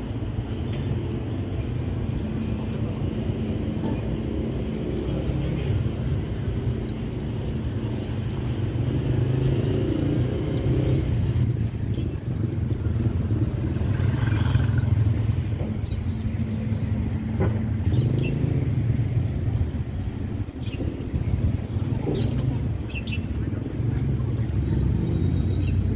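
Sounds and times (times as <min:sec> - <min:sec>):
low rumble of traffic: 0:00.0 - 0:25.9.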